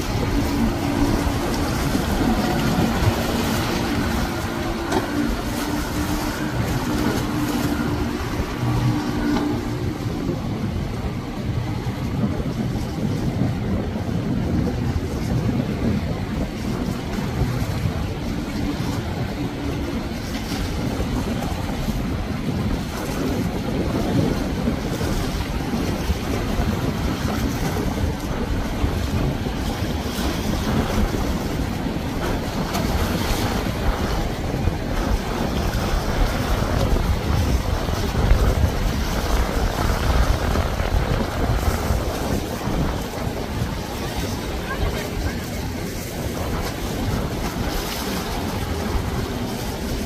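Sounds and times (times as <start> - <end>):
hull wash and surf: 0.0 - 50.0
motorboat engine: 0.0 - 50.0
wind rumbling on microphone: 0.0 - 50.0.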